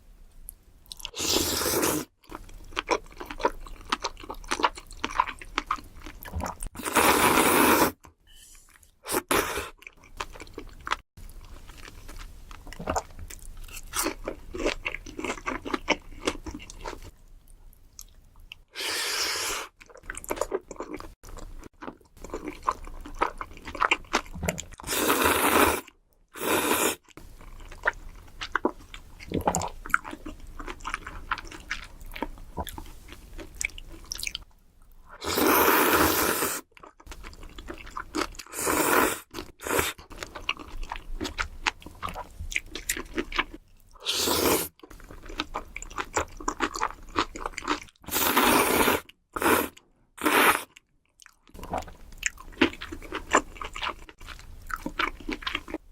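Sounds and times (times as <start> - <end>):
chewing pasta: 2.2 - 6.7, 9.7 - 17.2, 19.7 - 55.9.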